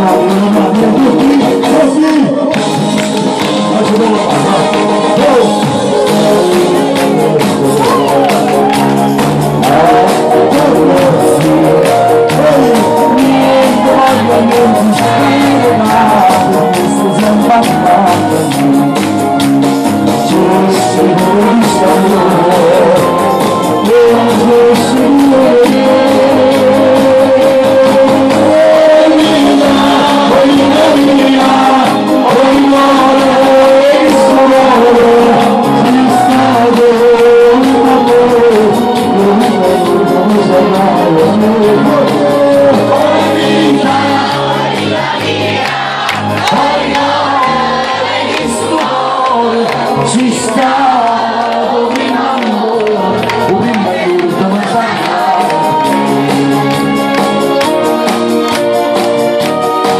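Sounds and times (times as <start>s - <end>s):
man singing into a microphone: 0.0s - 45.3s, 46.2s - 59.9s
amplified backing music: 0.0s - 59.9s.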